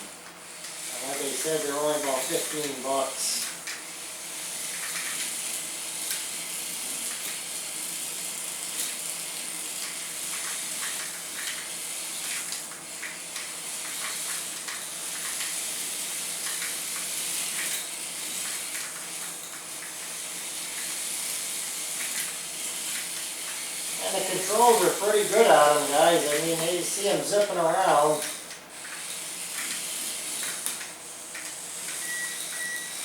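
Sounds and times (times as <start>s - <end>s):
small electric motors buzzing: 0.0s - 33.0s.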